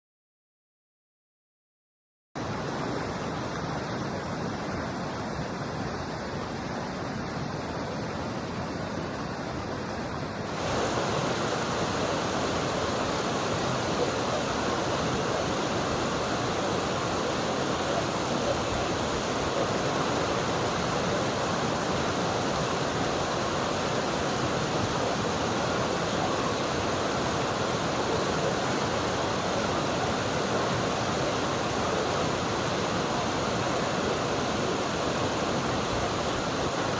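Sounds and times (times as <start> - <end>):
river water flowing: 2.4 - 36.9.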